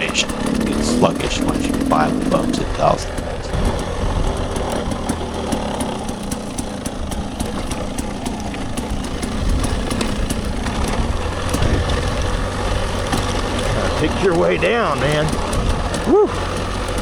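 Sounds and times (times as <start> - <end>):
dirt bike engine running: 0.0 - 17.0
sharp clicks and knocks: 0.0 - 17.0.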